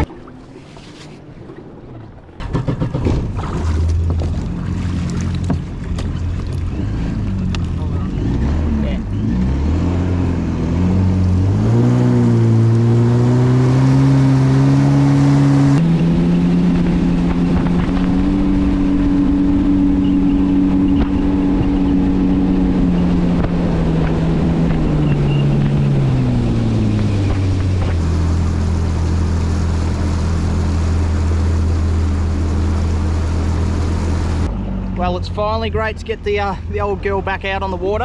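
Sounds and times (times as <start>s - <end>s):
engine running at speed: 1.9s - 36.0s.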